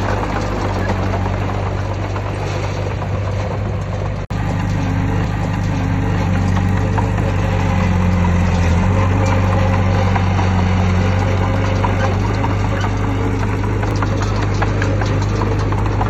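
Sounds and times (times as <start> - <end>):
diesel engine droning: 0.0 - 16.0
light clicks and clanks: 0.0 - 16.0.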